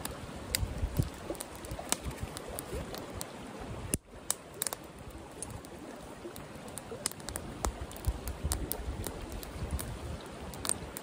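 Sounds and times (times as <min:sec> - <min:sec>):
campfire crackling: 0:00.0 - 0:11.0
fast-flowing creek: 0:00.0 - 0:11.0.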